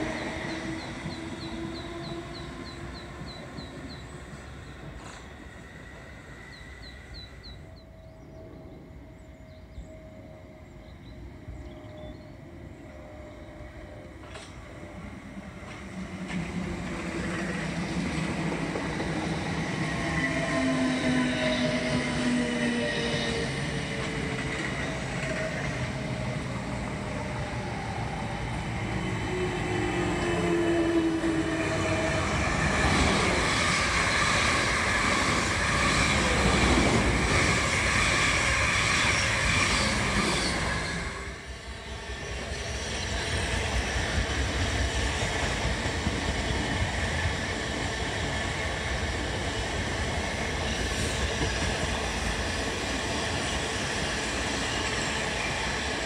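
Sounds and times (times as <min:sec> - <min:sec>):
train wheels rumbling on track: 0:00.0 - 0:10.0, 0:11.0 - 0:56.0.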